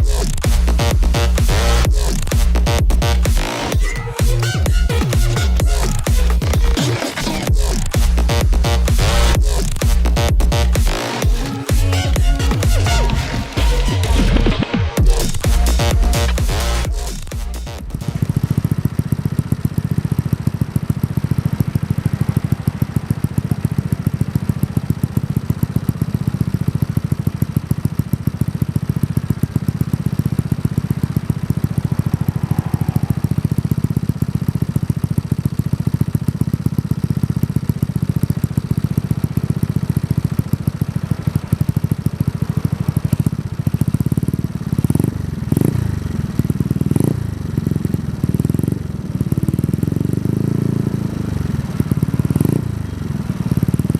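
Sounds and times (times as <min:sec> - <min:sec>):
scooter engine idling: 0:00.0 - 0:53.9.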